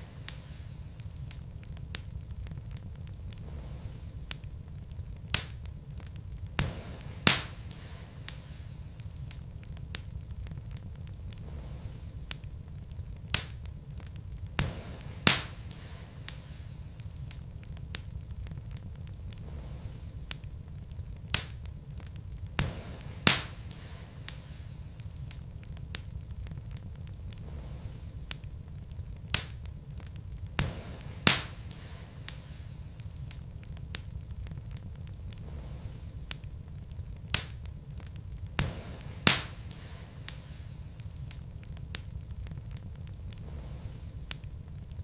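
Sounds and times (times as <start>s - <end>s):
burning logs popping: 0.0s - 45.0s
low steady rumble: 0.0s - 45.0s
wood fire crackling: 0.0s - 45.0s.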